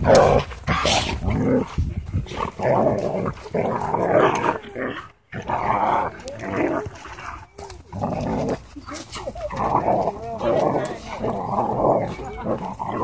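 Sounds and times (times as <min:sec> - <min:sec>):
dogs growling: 0:00.0 - 0:13.0.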